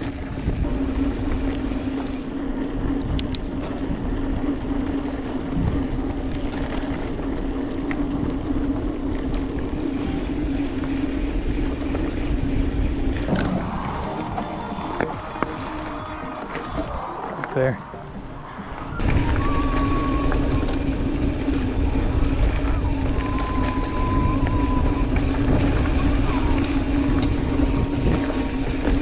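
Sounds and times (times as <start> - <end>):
bike tyres rumbling on dirt: 0.0 - 29.0
wind buffeting microphone: 0.0 - 29.0.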